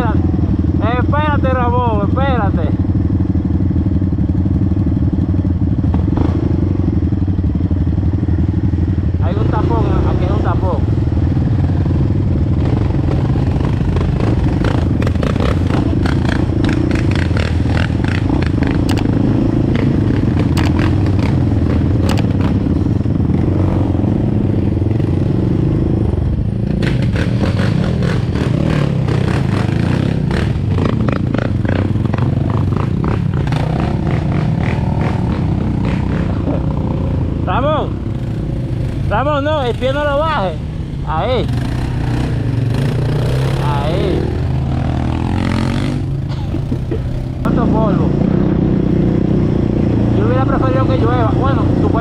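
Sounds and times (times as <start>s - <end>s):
off-road vehicle engine running: 0.0s - 52.0s.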